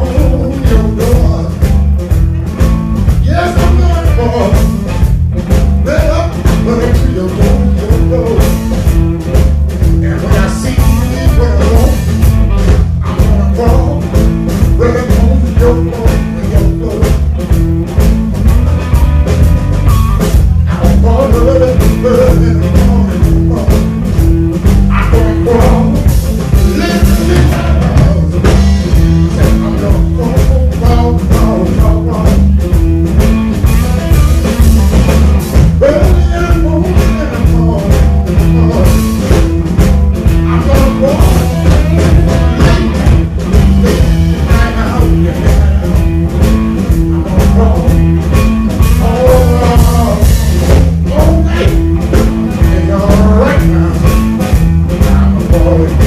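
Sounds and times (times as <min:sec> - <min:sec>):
man singing: 0:00.0 - 0:01.9, 0:03.1 - 0:05.0, 0:05.8 - 0:09.0, 0:09.8 - 0:17.6, 0:20.6 - 0:32.9, 0:33.5 - 0:56.0
live blues band playing: 0:00.0 - 0:56.0.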